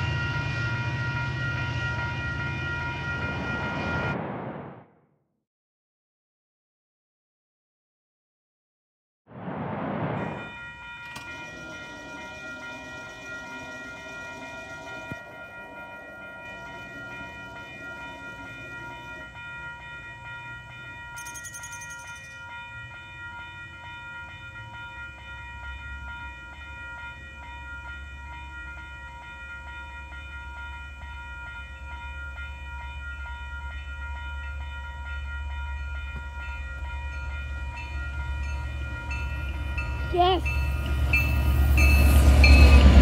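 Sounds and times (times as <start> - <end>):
crossing bell ringing: 0.0 - 4.2, 10.3 - 43.0
low train rumble: 0.0 - 4.5, 9.4 - 43.0.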